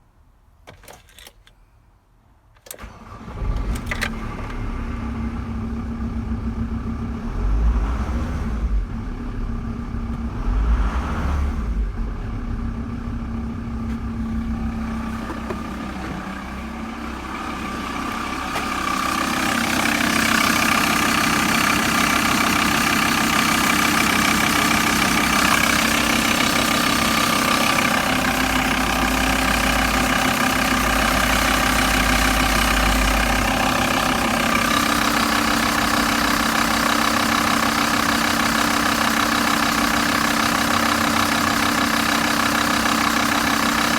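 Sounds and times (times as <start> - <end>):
diesel engine starting and running: 2.7 - 43.9.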